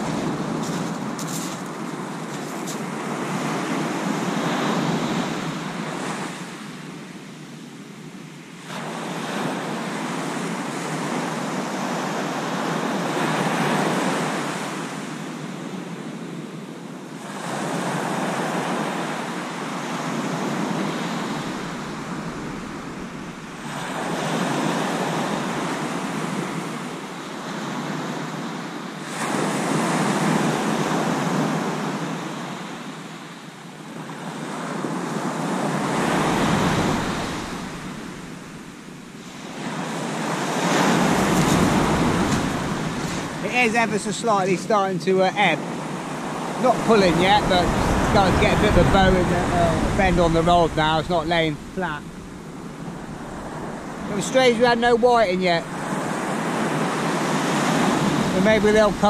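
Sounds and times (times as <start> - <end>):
sea surf breaking on beach: 0.0 - 7.1, 8.5 - 16.1, 17.1 - 59.0.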